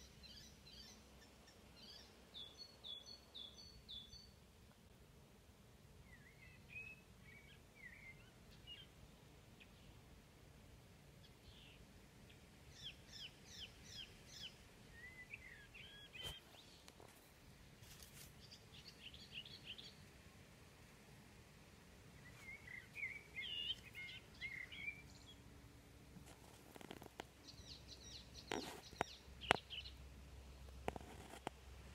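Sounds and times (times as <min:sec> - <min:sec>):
birds singing faintly: 0:00.0 - 0:31.9
outdoor background noise: 0:00.0 - 0:31.9.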